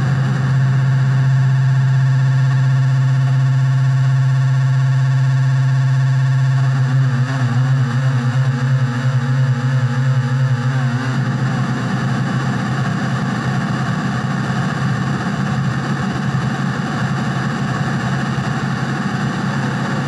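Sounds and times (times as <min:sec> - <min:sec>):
distorted synth layer: 0:00.0 - 0:20.0
harsh distorted noise drone: 0:00.0 - 0:20.0
low sustained hum: 0:00.0 - 0:20.0.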